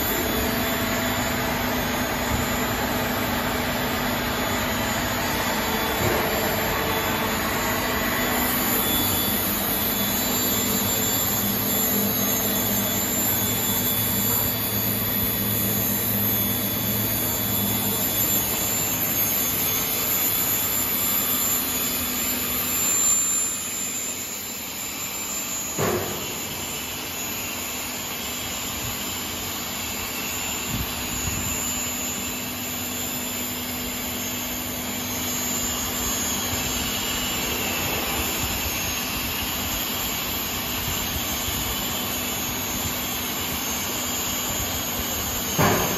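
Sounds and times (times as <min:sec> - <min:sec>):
production line machine hum: 0:00.0 - 0:45.9.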